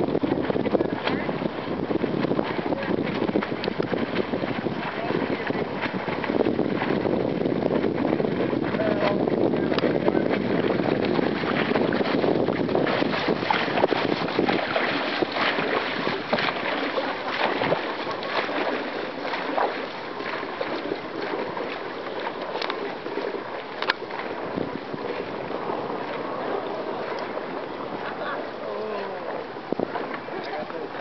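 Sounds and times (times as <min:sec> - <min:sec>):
paddles splashing water: 0:00.0 - 0:31.0.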